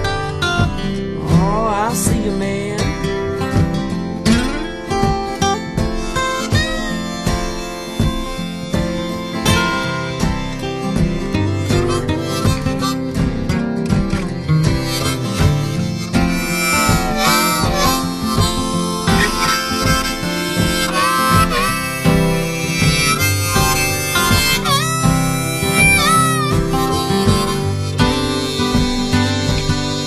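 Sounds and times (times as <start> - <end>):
blues guitar backing: 0.0 - 30.0
harmonica solo: 0.0 - 30.0.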